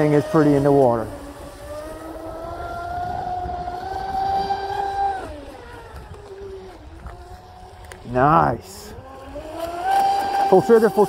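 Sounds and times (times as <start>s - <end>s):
electric boat motor whine: 0.0s - 11.0s
wind rumble on microphone: 0.0s - 11.0s.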